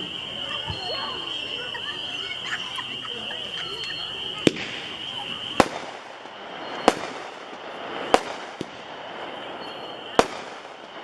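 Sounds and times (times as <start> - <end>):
firework bangs: 0.0 - 11.0
steady background hiss: 0.0 - 11.0.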